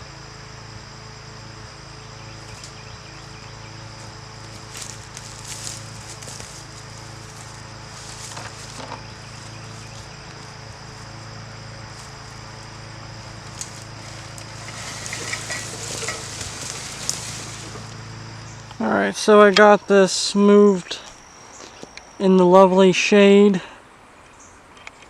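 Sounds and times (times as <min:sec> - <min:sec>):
crickets chirring: 0:00.0 - 0:25.0
low steady hum: 0:00.0 - 0:25.0.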